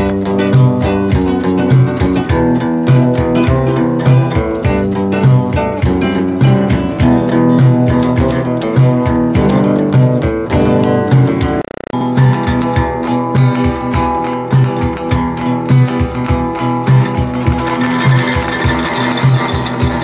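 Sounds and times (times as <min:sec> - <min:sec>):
classical guitar playing: 0:00.0 - 0:20.0
electric guitar: 0:00.0 - 0:20.0.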